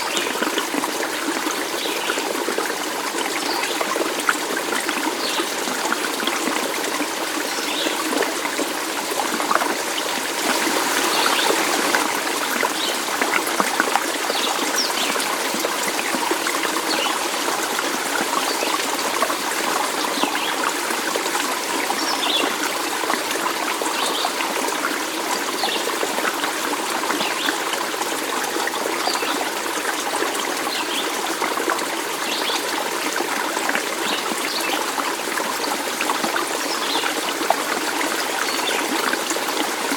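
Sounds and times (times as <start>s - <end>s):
water babbling in a stream: 0.0s - 39.9s.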